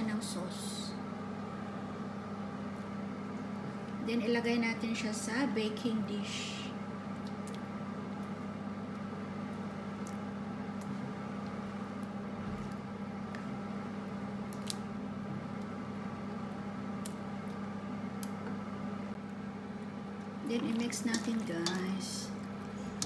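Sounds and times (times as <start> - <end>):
kitchen appliance humming: 0.0 - 23.0.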